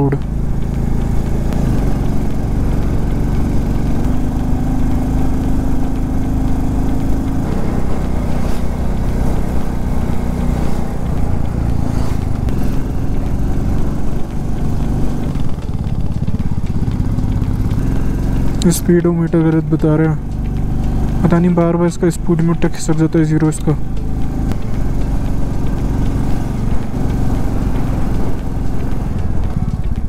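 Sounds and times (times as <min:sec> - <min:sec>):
single-cylinder motorcycle engine: 0:00.0 - 0:30.0.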